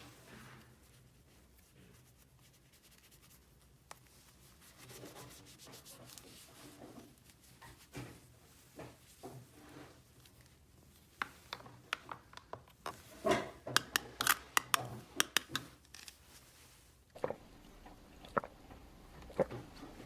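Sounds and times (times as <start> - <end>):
faint rubbing and handling noises: 0.0 - 17.2.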